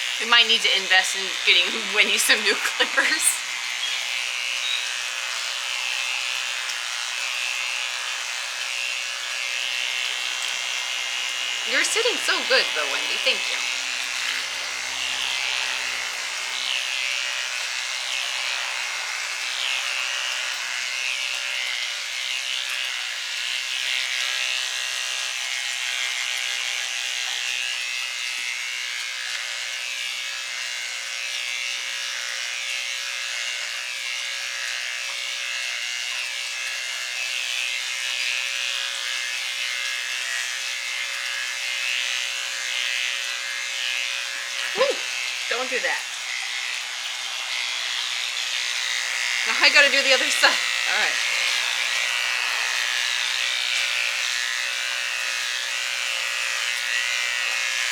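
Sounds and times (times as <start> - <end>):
electric hair clippers buzzing: 0.0 - 57.9.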